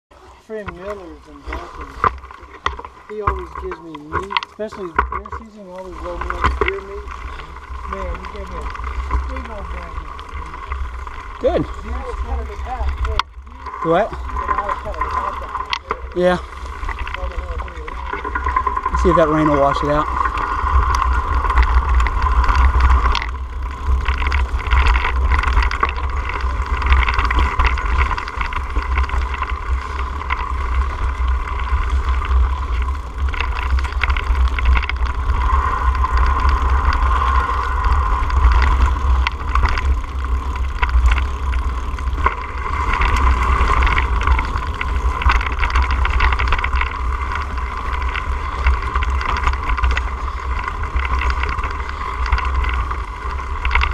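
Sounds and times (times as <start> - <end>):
bike tyres rumbling on dirt: 0.1 - 53.9
bike knocks and rattles: 0.5 - 53.9.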